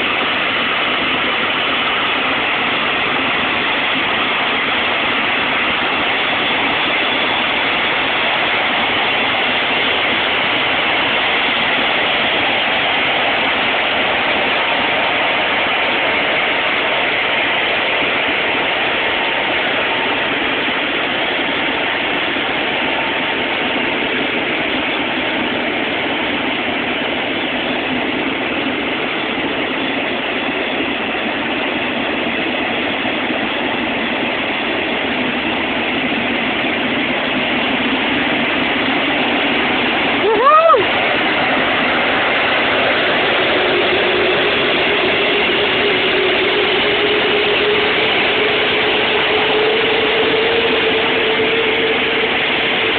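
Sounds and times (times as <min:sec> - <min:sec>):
jet engines at taxi power: 0:00.0 - 0:52.9.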